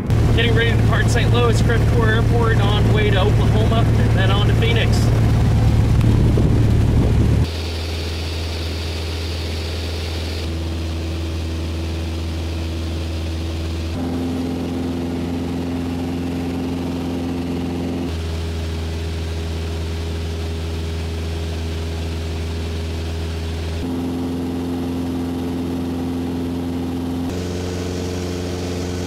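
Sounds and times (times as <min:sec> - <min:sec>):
propeller aircraft engine drone: 0:00.0 - 0:29.0.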